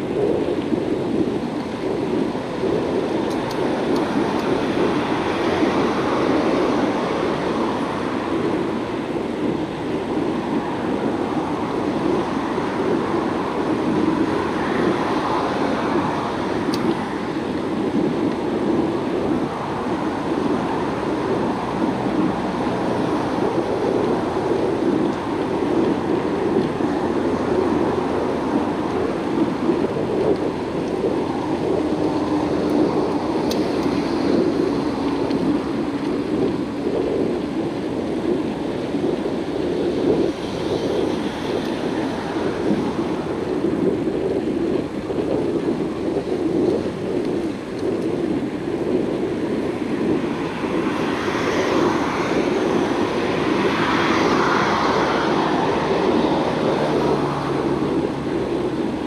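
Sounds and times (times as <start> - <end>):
bicycle tyres rolling on pavement: 0.0 - 59.0
road traffic: 0.0 - 59.0
wind on microphone: 0.0 - 59.0.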